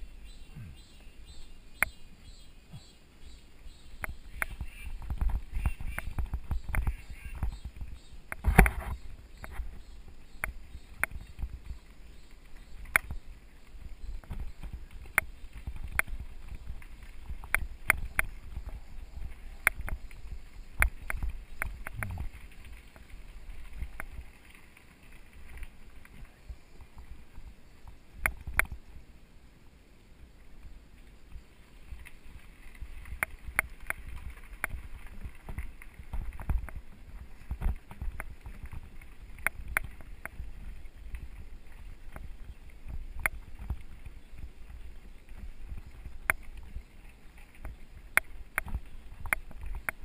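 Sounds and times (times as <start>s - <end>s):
bike tyres rumbling on gravel: 0.0s - 29.1s, 30.3s - 50.0s
bike clicks and rattles: 4.0s - 28.8s, 31.9s - 50.0s.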